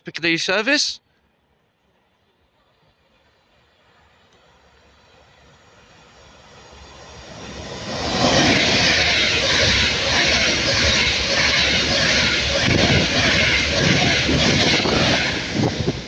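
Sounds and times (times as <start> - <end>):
electric train passing: 1.2 - 16.0.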